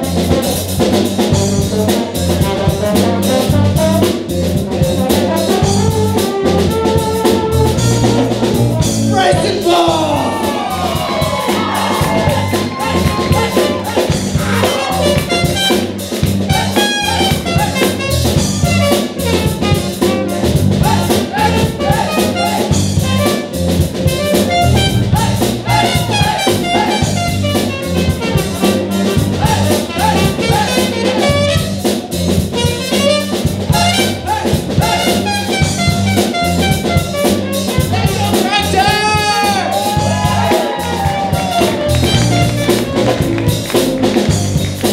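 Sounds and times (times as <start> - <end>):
trumpet: 0.0 - 44.3
brass-led jazz band playing: 0.0 - 44.9.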